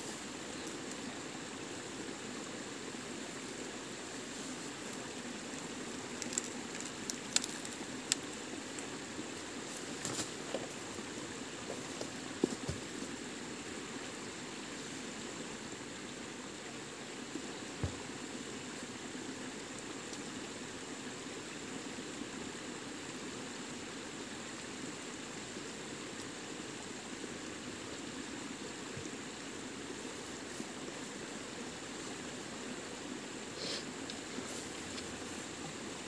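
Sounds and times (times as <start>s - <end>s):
stream flowing: 0.0s - 36.0s.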